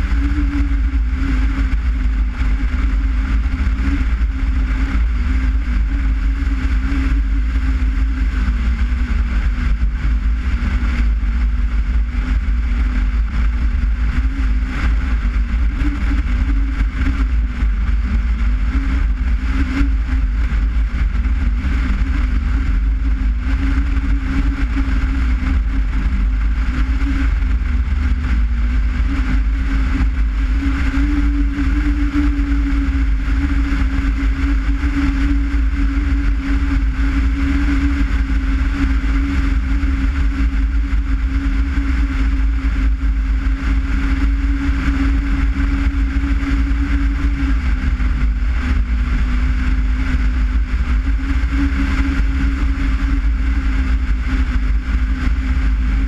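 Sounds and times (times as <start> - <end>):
car engine drone: 0.0 - 56.0
road and wind rumble: 0.0 - 56.0.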